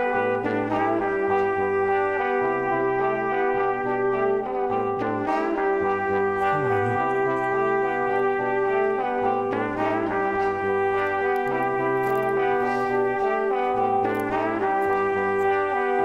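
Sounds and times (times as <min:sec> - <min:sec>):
slow instrumental chords: 0:00.0 - 0:16.0.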